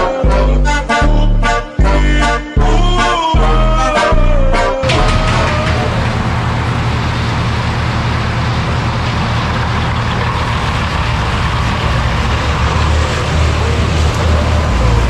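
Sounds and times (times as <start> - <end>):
large engine droning: 2.6 - 15.0.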